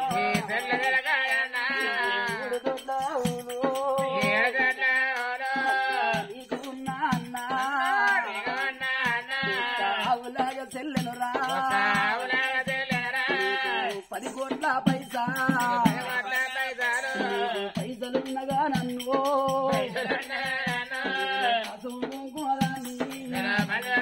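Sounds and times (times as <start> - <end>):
person singing folk song: 0.0 - 24.0
rattling hand percussion: 0.0 - 24.0.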